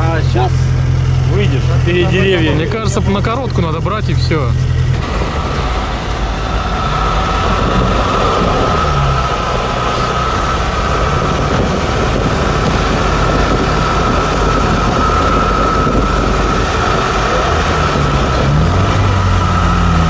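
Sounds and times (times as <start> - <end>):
vehicle engine droning with whine: 0.0 - 20.0.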